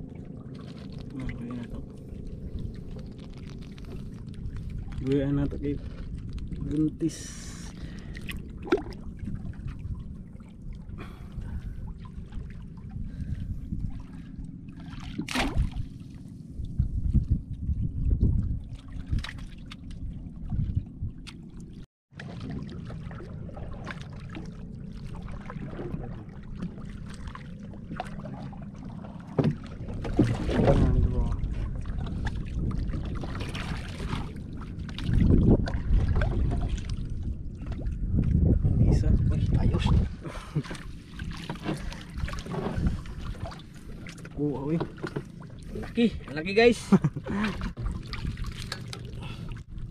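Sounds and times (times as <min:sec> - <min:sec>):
water splashes: 0:00.0 - 0:16.8, 0:17.5 - 0:49.9
water lapping against boat: 0:00.0 - 0:49.9
wind rumble on microphone: 0:00.0 - 0:49.9.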